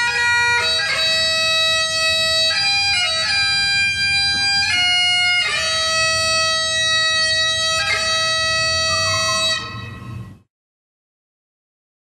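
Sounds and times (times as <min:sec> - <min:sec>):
bagpipe drones: 0:00.0 - 0:10.4
bagpipes playing slow tune: 0:00.0 - 0:10.4.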